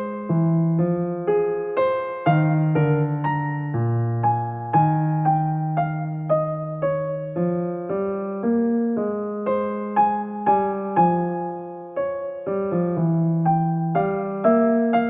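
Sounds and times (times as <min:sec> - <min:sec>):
gentle solo piano melody: 0:00.0 - 0:15.0.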